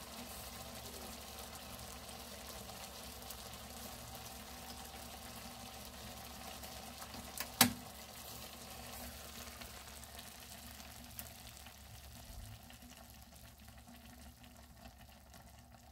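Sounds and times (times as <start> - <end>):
fish simmering and sizzling: 0.0 - 15.9.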